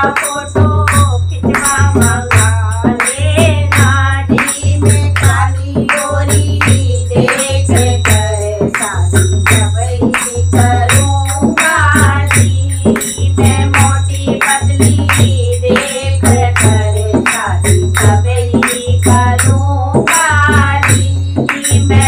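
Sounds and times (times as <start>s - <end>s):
hand drum beat: 0.0s - 22.0s
women singing in unison: 0.0s - 22.0s.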